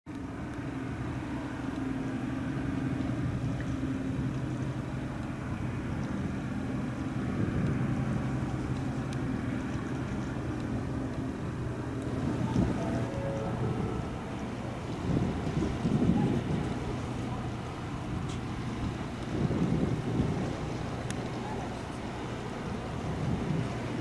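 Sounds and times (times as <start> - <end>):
hull rushing through water: 0.1 - 24.0
ship engines droning: 0.1 - 24.0.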